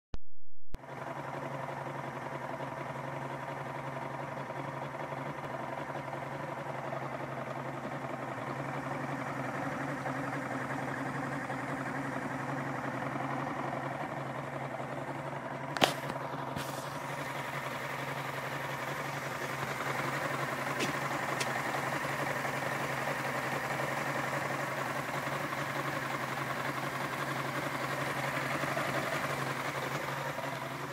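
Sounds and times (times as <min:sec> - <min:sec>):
vehicle engine idling roughly: 0:00.8 - 0:30.9.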